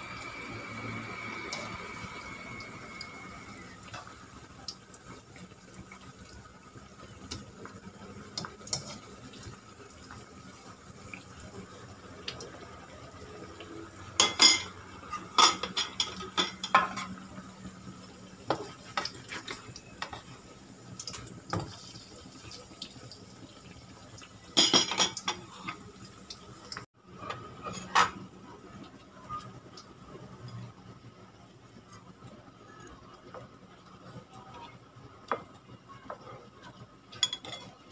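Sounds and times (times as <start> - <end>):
oil sizzling and bubbling: 0.0 - 37.9.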